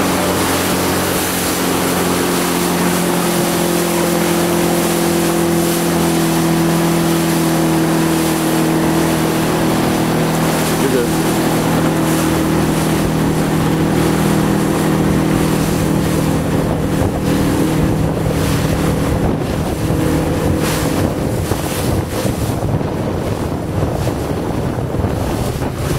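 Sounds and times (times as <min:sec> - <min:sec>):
motorboat engine running: 0:00.0 - 0:25.9
water washing past hull: 0:00.0 - 0:25.9
wind buffeting microphone: 0:00.0 - 0:25.9.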